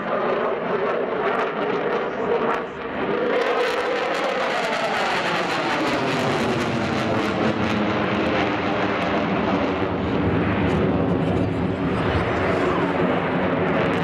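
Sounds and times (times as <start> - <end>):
fighter jet afterburner roar: 0.0 - 14.0.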